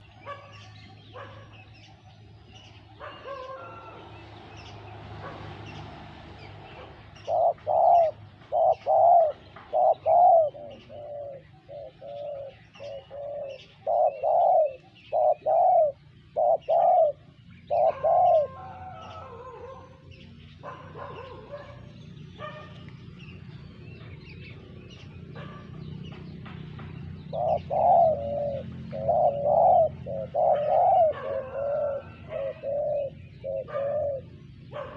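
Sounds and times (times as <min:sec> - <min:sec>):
doves cooing: 0:00.0 - 0:34.9.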